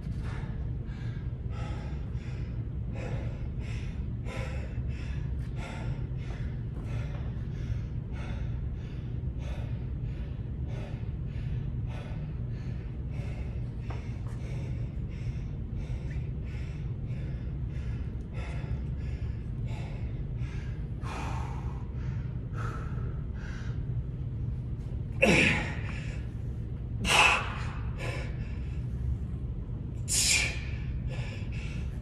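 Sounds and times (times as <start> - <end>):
man breathing hard: 0.0 - 32.0.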